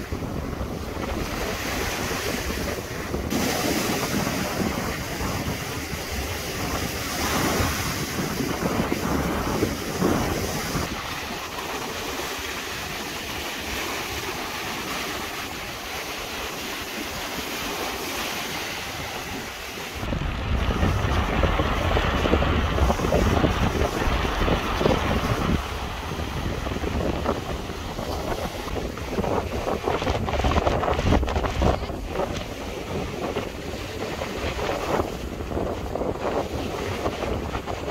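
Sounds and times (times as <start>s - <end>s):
sea waves breaking: 0.0s - 37.9s
wind buffeting microphone: 0.0s - 37.9s.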